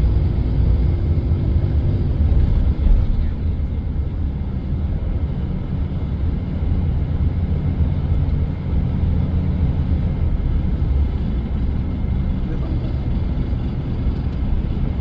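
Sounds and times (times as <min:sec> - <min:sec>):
bus engine drone: 0:00.0 - 0:15.0
tyres on the road: 0:00.0 - 0:15.0.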